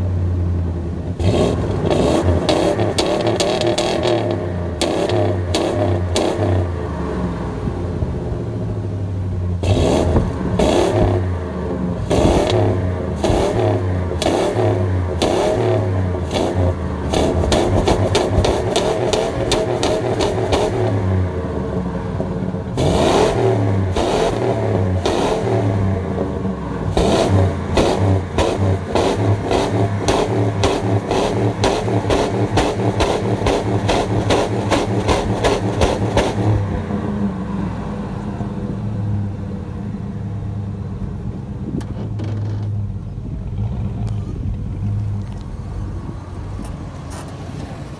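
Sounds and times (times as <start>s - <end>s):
engine exhaust revving: 0.8s - 39.7s.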